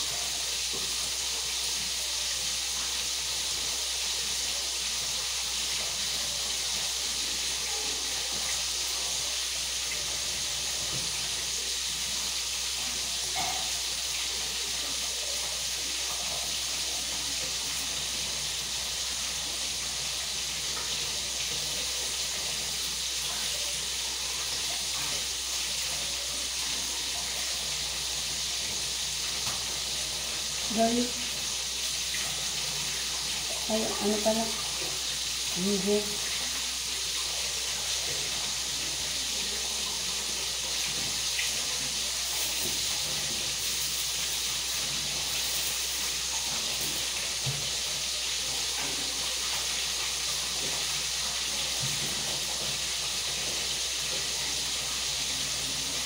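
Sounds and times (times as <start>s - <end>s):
water running from tap: 0.0s - 56.0s.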